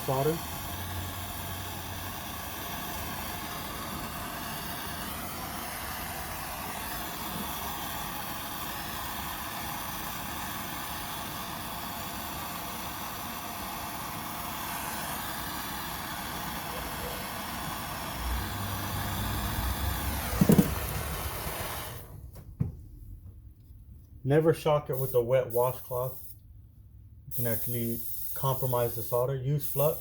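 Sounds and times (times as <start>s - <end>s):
gas torch flame hissing: 0.0s - 22.2s, 24.9s - 26.4s, 27.3s - 30.0s.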